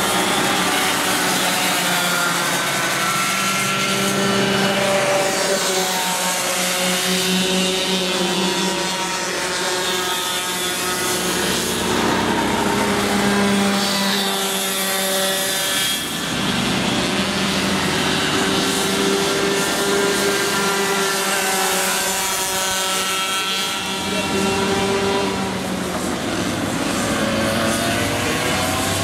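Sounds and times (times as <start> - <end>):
go-kart engines buzzing: 0.0 - 29.0.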